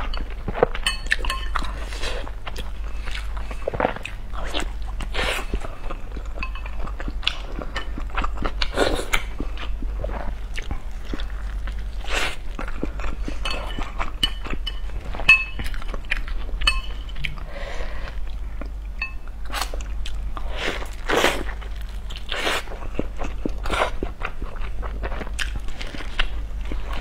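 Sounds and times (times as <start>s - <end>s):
biting and wet chewing: 0.0s - 17.5s, 18.1s - 27.0s
steady low hum: 0.0s - 27.0s.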